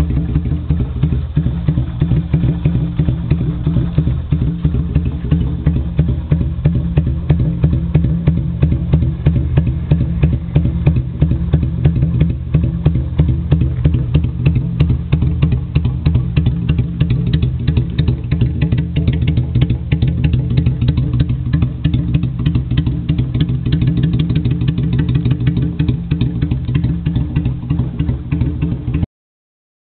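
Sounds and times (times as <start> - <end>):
motorcycle engine idling: 0.0 - 29.1.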